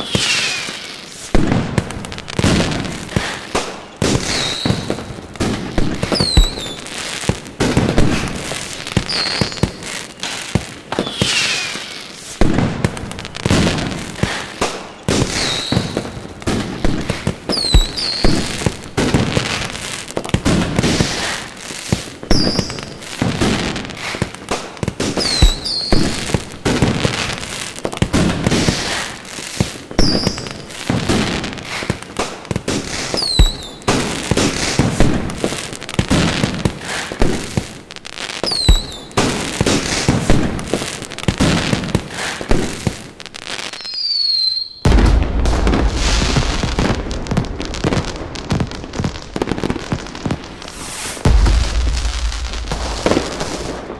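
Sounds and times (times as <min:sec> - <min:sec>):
falling firework whistles: 0:00.0 - 0:01.8, 0:02.4 - 0:40.8, 0:41.4 - 0:53.9
fireworks bangs and crackle: 0:00.0 - 0:53.9.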